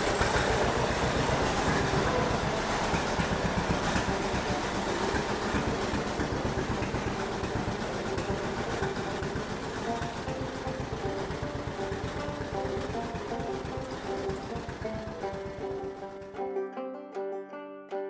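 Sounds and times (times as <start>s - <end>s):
two-cylinder engine running: 0.0s - 16.4s.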